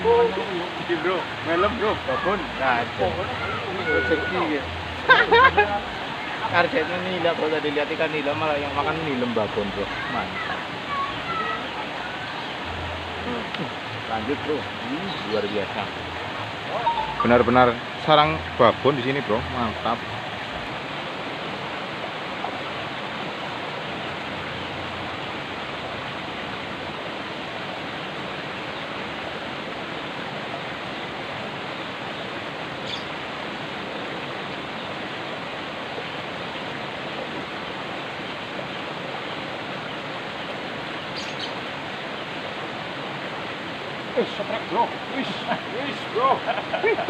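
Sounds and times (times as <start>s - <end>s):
water rushing in ditch: 0.0s - 47.0s.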